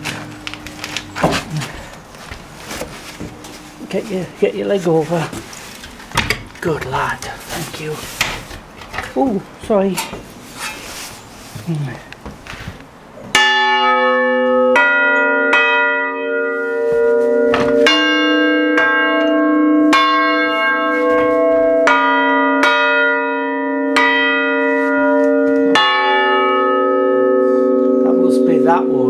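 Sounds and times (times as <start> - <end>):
church bells ringing: 0.0 - 8.1, 13.3 - 29.0.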